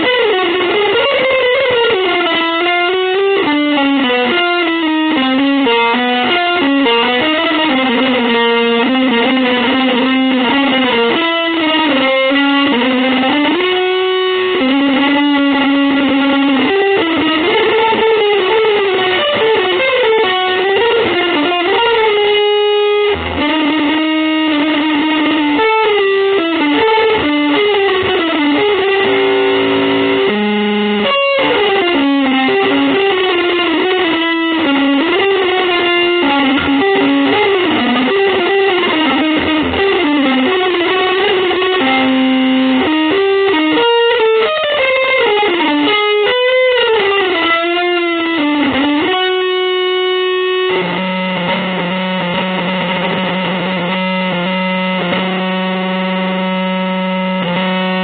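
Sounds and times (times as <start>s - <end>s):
electric guitar melody: 0.0s - 58.0s.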